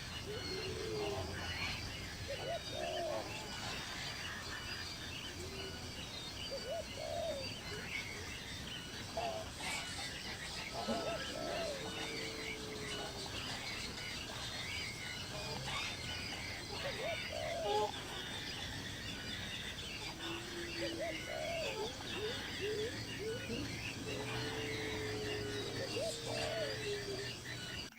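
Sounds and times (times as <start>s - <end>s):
birds chirping and calling: 0.0s - 27.9s.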